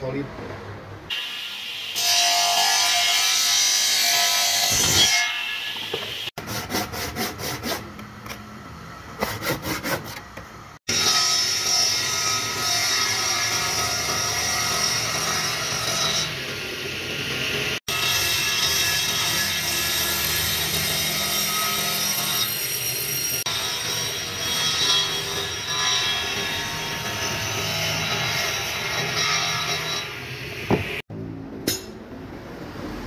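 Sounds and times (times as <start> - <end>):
circular saw cutting wood: 1.1 - 8.0, 9.2 - 31.0.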